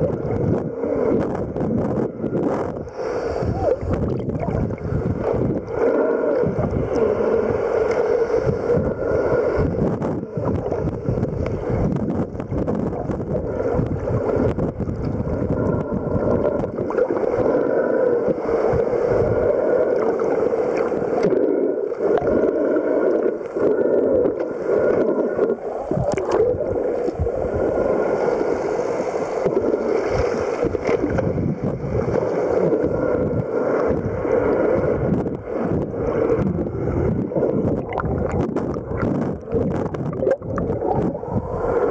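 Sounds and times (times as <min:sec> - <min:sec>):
underwater water rushing: 0:00.0 - 0:41.9
fins churning bubbles: 0:03.5 - 0:28.6, 0:29.4 - 0:41.9.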